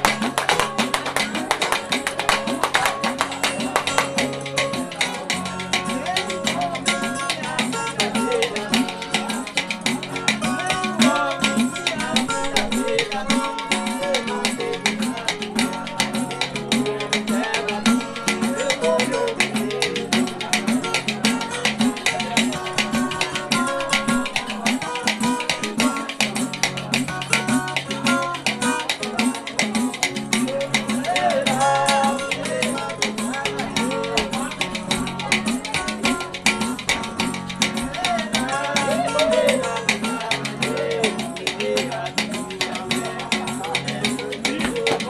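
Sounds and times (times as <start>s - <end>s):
hand percussion struck with stick: 0.0s - 45.0s
men singing: 0.0s - 45.0s
plucked acoustic guitar: 0.0s - 45.0s.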